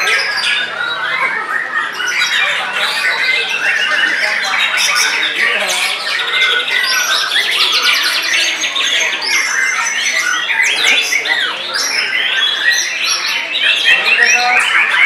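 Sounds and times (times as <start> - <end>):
birds singing in chorus: 0.0 - 15.0.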